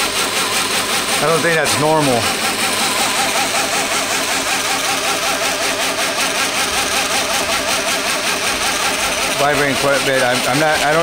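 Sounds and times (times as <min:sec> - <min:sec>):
belt grinder running with wavering whine: 0:00.0 - 0:11.0.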